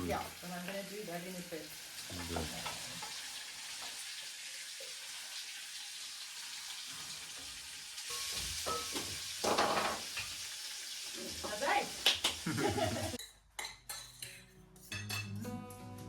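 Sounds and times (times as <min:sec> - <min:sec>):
food sizzling in pans: 0:00.0 - 0:13.3.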